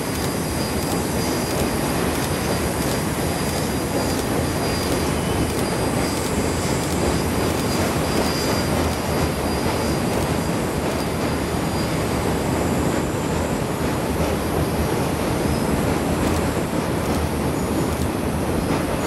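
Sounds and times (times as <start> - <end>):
train wheels rumbling on bridge: 0.0 - 19.0.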